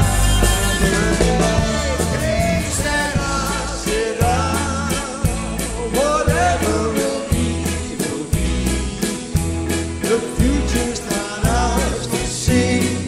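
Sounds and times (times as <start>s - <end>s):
bass guitar: 0.0s - 13.0s
drums keeping a steady beat: 0.0s - 13.0s
electric guitars: 0.0s - 13.0s
piano: 0.0s - 13.0s.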